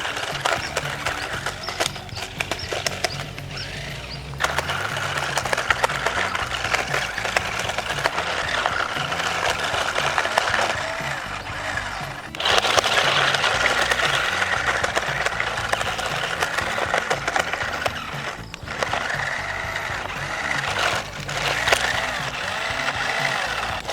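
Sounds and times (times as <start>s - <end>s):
music with steady bass line: 0.0s - 23.9s
plastic clicking and clattering: 0.0s - 23.9s
toy car electric motors whirring: 0.0s - 23.9s.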